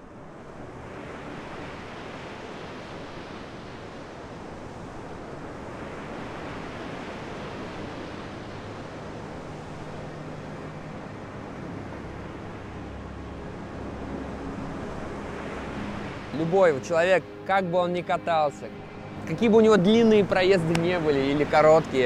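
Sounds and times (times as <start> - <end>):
wind: 0.0 - 22.0
surf breaking on shore: 1.4 - 22.0.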